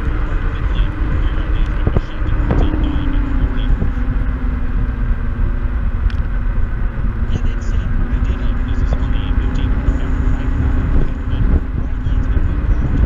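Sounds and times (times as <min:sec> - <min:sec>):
electric scooter motor whine: 0:00.0 - 0:13.0
wind rumbling on microphone: 0:00.0 - 0:13.0.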